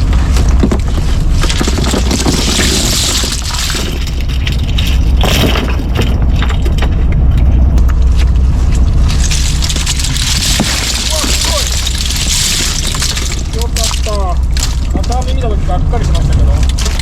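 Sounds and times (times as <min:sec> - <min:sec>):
boat engine low rumble: 0:00.0 - 0:17.0
gear clattering on deck: 0:00.0 - 0:17.0.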